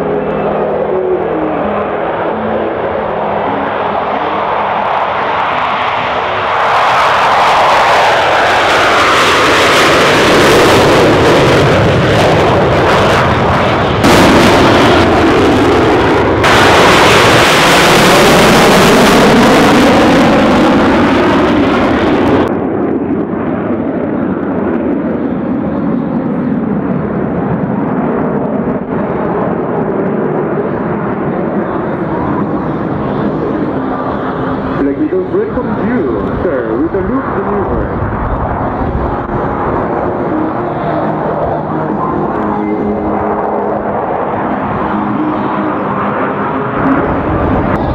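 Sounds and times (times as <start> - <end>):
jet aircraft roaring overhead: 0.0 - 47.9.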